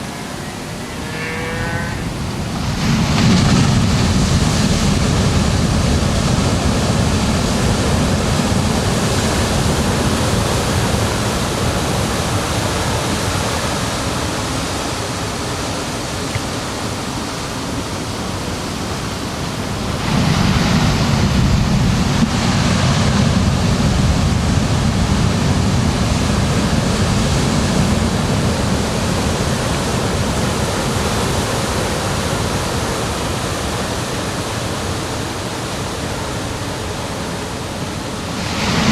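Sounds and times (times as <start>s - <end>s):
ocean waves washing onto beach: 0.0s - 38.9s.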